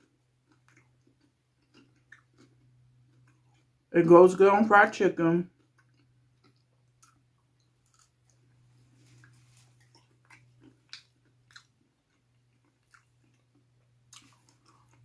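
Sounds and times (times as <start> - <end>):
chewing with wet mouth clicks: 0.0 - 3.8, 5.5 - 15.0.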